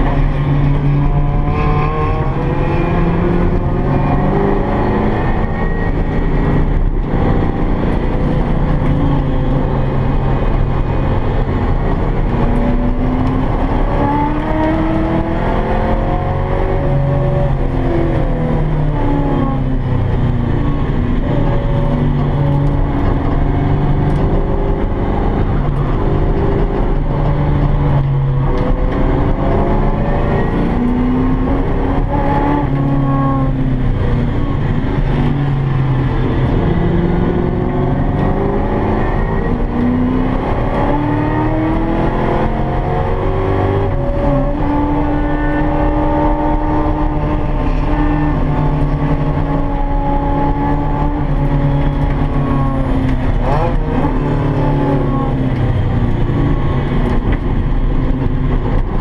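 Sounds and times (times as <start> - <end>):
car engine accelerating and braking: 0.0 - 59.0.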